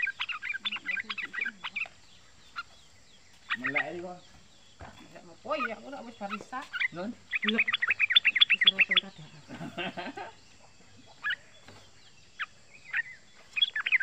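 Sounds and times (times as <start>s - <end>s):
bird singing rolling chirps: 0.0s - 14.0s
lower dense bird chattering: 0.0s - 14.0s.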